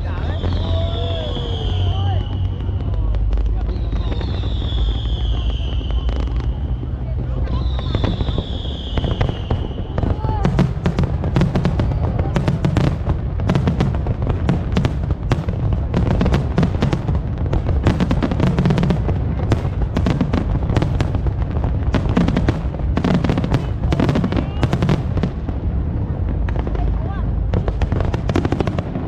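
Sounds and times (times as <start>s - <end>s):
fireworks popping and crackling: 0.0s - 29.0s
low rumble of booms: 0.0s - 29.0s.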